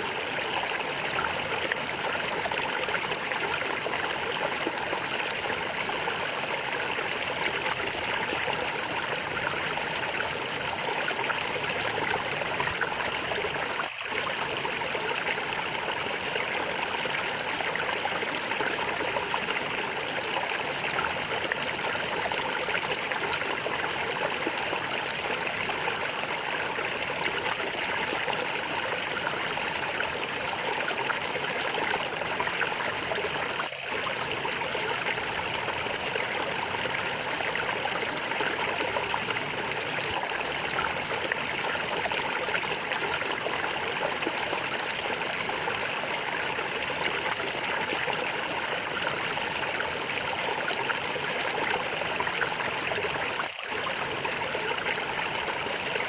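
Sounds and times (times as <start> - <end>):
stream gurgling over stones: 0.0 - 56.0.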